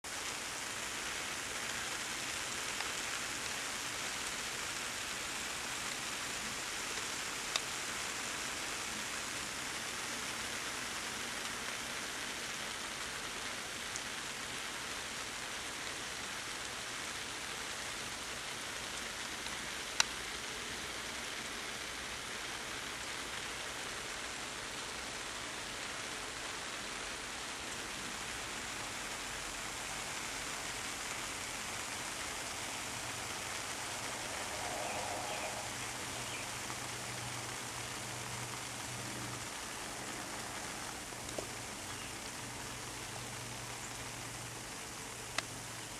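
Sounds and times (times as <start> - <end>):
water spray on foliage: 0.1 - 45.9.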